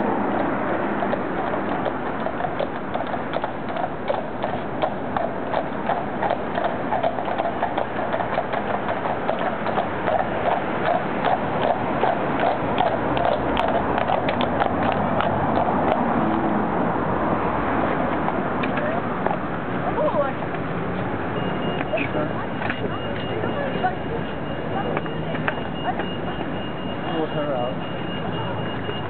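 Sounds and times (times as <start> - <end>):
horse hooves clip-clopping on road: 0.0 - 29.0
steady background noise: 0.0 - 29.0.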